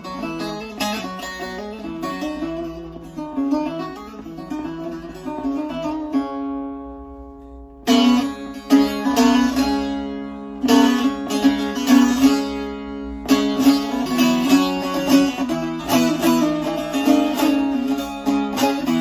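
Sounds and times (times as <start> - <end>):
saz chords strummed: 0.0 - 19.0
saz picked melody: 0.0 - 19.0.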